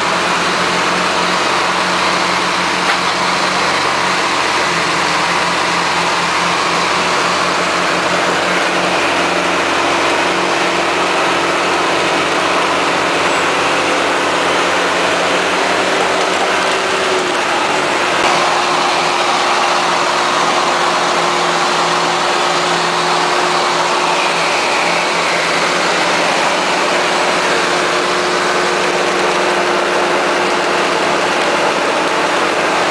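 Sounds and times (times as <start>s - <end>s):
truck and tractor engines running: 0.0s - 32.9s.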